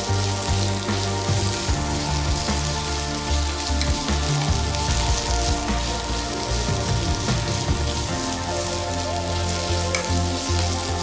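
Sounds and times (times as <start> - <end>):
background music: 0.0 - 11.0
vegetables sizzling in frying pan: 0.0 - 11.0.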